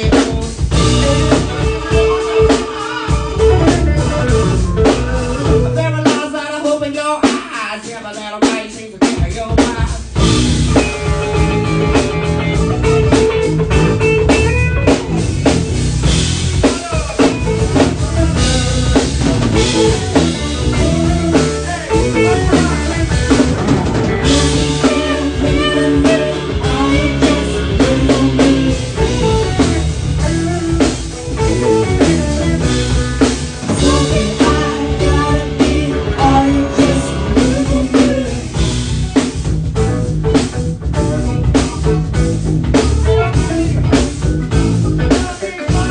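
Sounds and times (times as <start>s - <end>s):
drum rimshots: 0.0s - 45.9s
live band playing instrumental: 0.0s - 45.9s.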